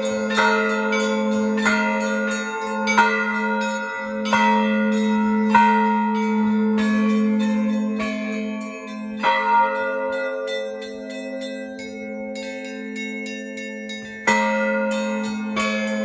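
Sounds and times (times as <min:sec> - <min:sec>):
small church bells struck: 0:00.0 - 0:16.0.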